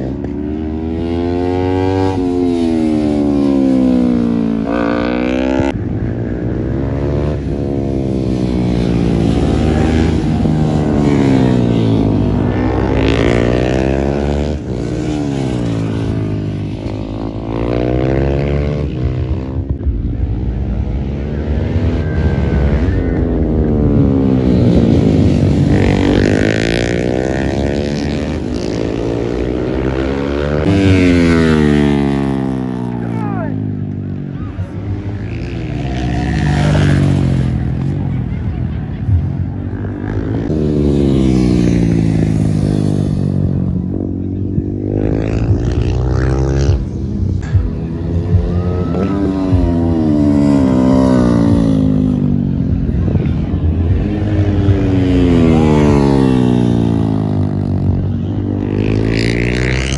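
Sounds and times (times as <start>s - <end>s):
sport bike engines at high revs: 0.0s - 59.9s.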